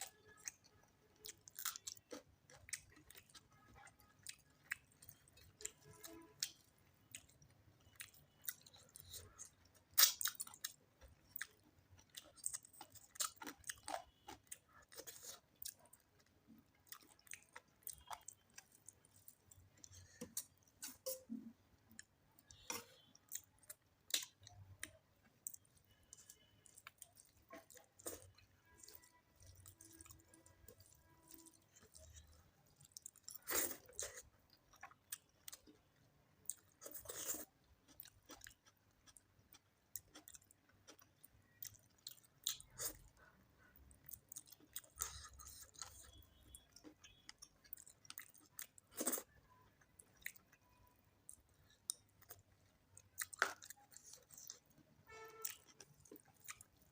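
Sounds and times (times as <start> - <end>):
wet chewing and mouth smacks: 0.0 - 35.8, 36.4 - 54.8, 55.4 - 56.9.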